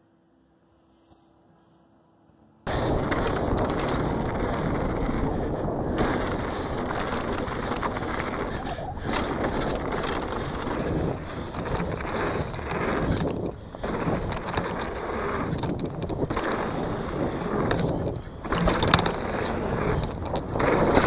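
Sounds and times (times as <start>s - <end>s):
bike rattling and knocking: 2.7s - 21.0s
tyres rushing on dirt: 2.7s - 21.0s
wind on microphone: 2.7s - 21.0s.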